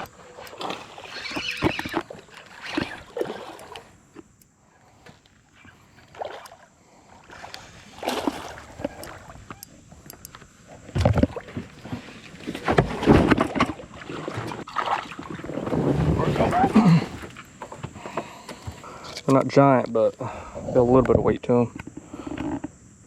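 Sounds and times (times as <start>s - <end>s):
fish splashing and knocking in boat: 0.0s - 4.3s, 4.9s - 19.4s.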